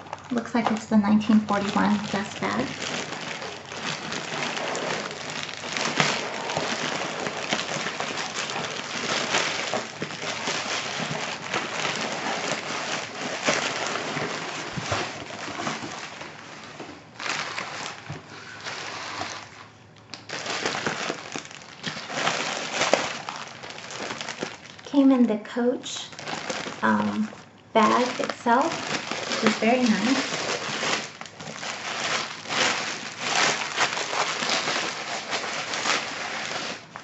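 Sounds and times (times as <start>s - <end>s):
packaging rustling and crinkling: 0.0s - 37.0s.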